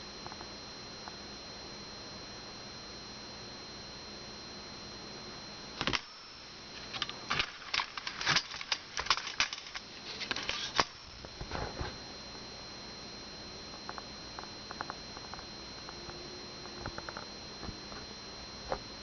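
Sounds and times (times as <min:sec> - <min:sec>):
faint hiss with high whine: 0:00.0 - 0:19.0.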